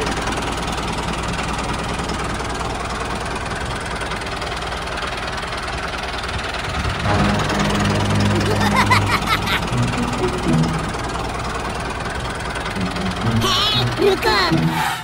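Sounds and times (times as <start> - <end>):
tractor engine chugging: 0.0 - 15.0.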